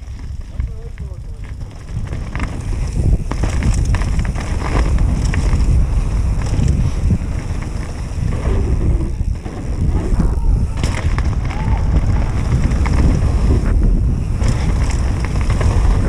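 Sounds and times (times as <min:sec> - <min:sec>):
bike rattling knocks: 0:00.0 - 0:16.0
tyre rumble on dirt: 0:00.0 - 0:16.0
wind buffeting microphone: 0:00.0 - 0:16.0.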